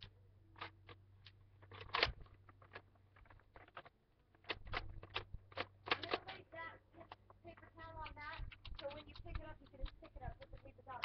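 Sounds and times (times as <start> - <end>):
hard plastic clicks and knocks: 0.0 - 11.0.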